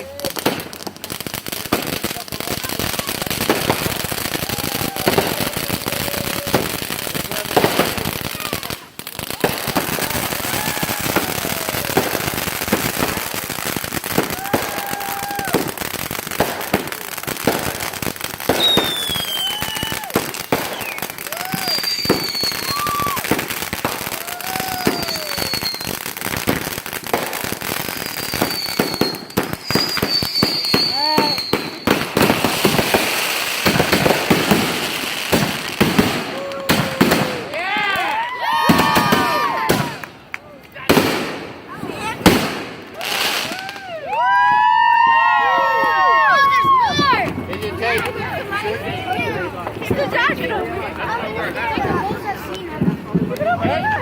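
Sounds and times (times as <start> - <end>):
firework fountains crackling: 0.0 - 54.0.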